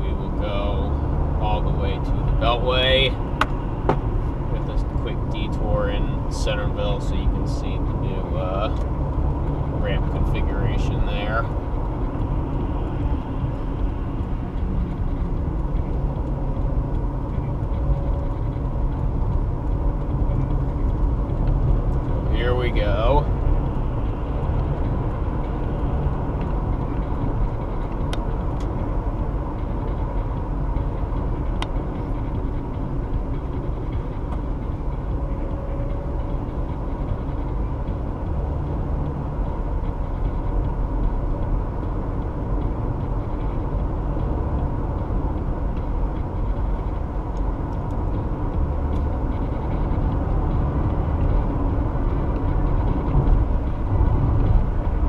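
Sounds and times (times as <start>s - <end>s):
car road noise from inside: 0.0s - 55.0s.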